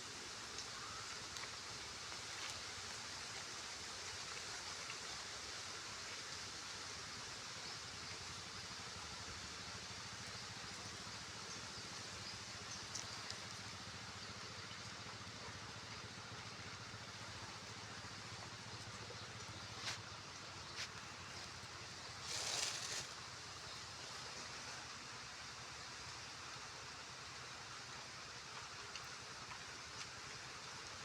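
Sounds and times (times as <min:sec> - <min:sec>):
outdoor hiss: 0:00.0 - 0:31.0.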